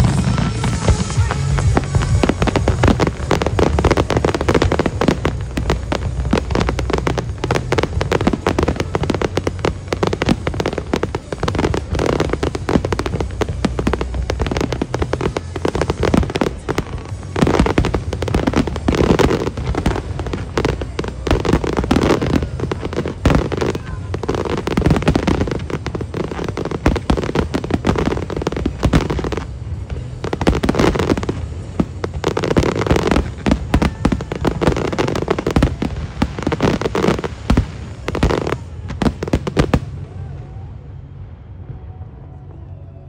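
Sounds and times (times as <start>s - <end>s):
fireworks exploding: 0.0s - 40.7s.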